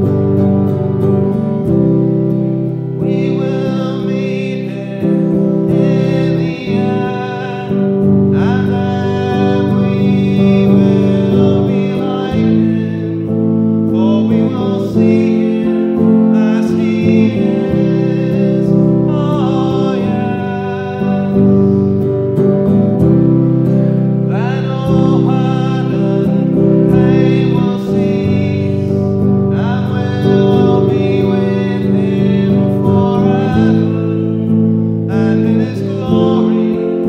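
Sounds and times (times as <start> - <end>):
man singing: 0.0 - 37.0
strummed guitar chords: 0.0 - 37.0.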